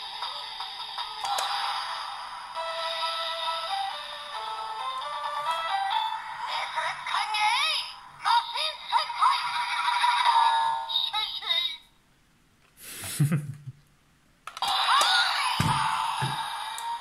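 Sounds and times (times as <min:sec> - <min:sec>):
toy electronic sound effects: 0:00.3 - 0:11.8, 0:14.5 - 0:17.0.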